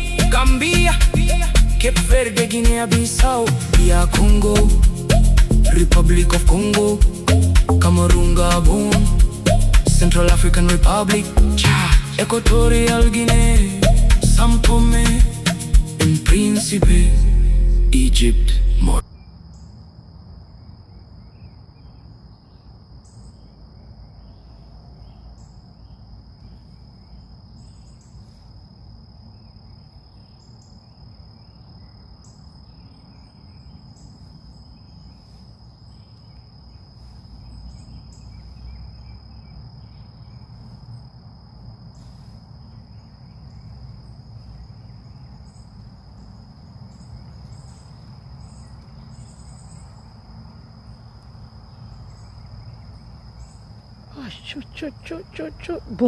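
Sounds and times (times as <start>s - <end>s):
crickets trilling: 0.0s - 17.1s, 19.0s - 56.0s.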